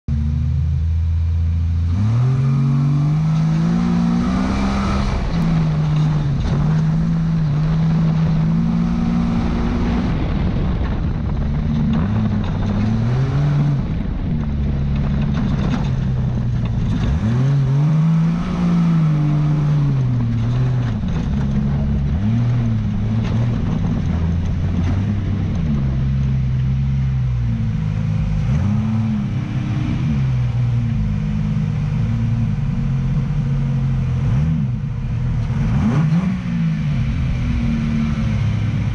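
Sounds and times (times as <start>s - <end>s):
road and wind noise: 0.1s - 38.9s
race car engine revving: 1.6s - 38.9s.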